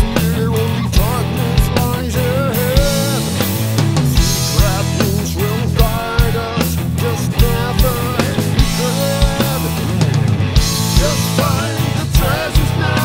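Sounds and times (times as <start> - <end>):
electric guitar lead: 0.0 - 13.0
heavy rock music: 0.0 - 13.0.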